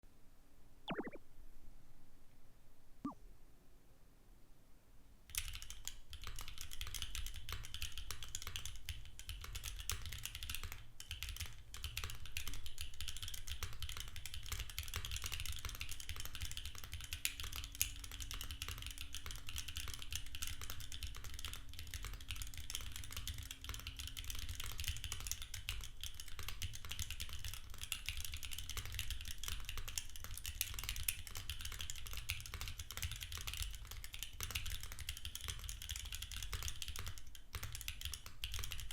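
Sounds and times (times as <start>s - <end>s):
fast typing on mechanical keyboard: 5.4s - 38.9s.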